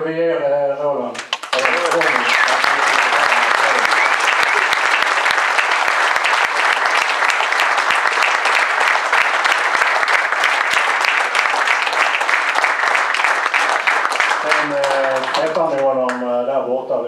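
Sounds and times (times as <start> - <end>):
audience applauding: 1.2 - 16.3.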